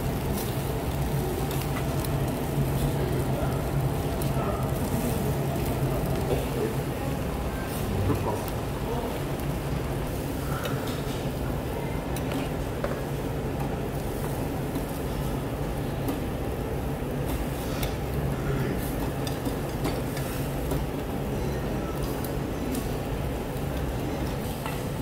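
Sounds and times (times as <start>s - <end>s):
stew boiling in a pan: 0.0s - 25.0s.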